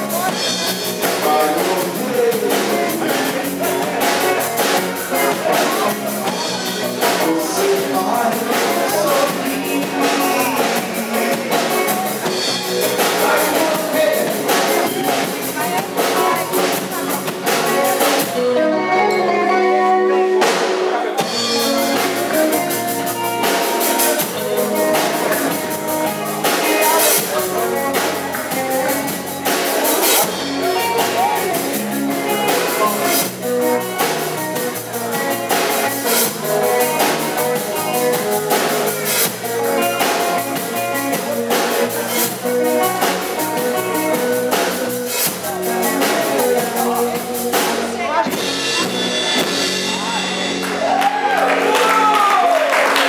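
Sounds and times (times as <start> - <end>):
drums and cymbals: 0.0 - 19.2, 20.3 - 52.3
electric guitar notes: 0.0 - 53.0
live rock band playing: 0.0 - 53.0.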